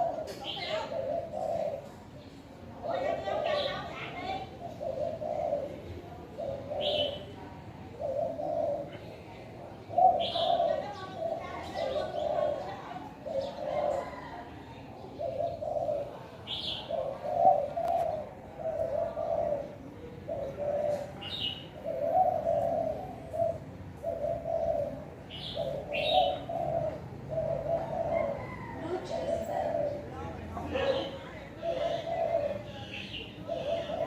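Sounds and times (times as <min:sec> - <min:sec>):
dove cooing: 0:00.0 - 0:34.0.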